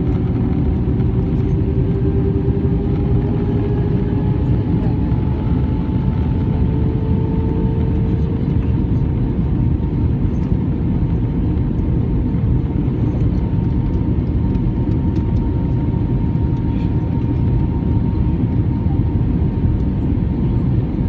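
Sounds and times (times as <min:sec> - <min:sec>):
jet cabin engine rush: 0:00.0 - 0:21.0.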